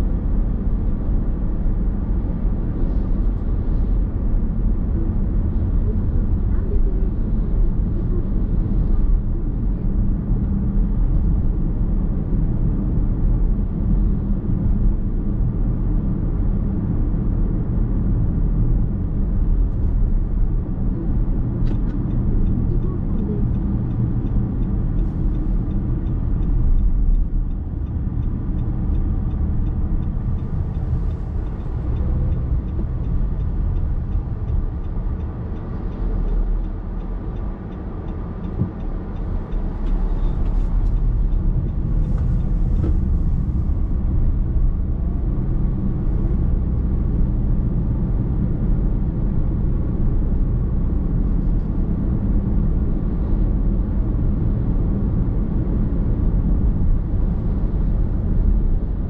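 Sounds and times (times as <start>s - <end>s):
in-cabin road noise: 0.0s - 59.0s.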